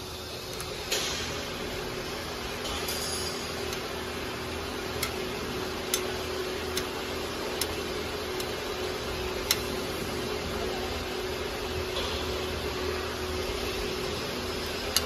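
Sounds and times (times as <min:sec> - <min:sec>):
machine-room hum: 0:00.0 - 0:15.0.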